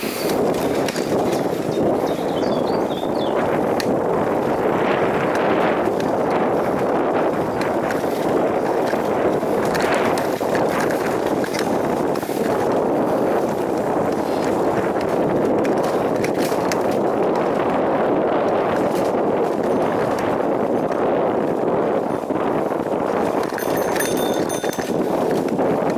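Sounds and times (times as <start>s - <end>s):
bicycle rattles and clicks: 0.0s - 25.9s
bicycle tyre and wind rush: 0.0s - 25.9s.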